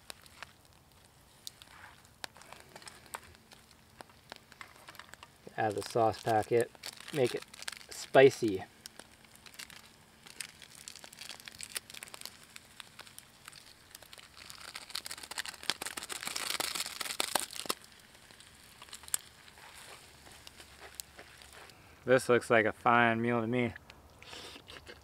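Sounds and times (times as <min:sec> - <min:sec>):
sauce packet crinkling: 0:00.0 - 0:21.7.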